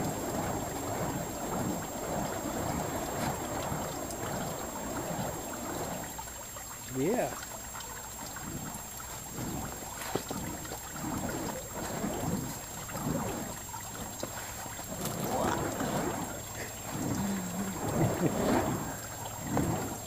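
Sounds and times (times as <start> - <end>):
fire poi whooshing: 0.0 - 20.0.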